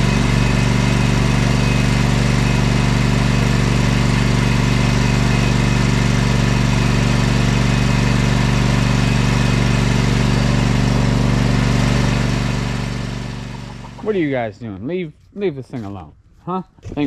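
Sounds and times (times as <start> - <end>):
riding lawnmower engine droning: 0.0 - 14.6.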